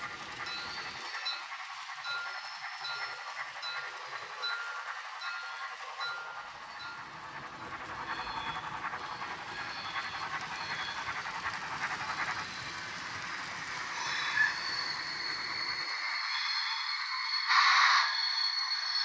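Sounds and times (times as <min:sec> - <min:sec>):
model steam locomotive running sound: 0:00.0 - 0:19.0.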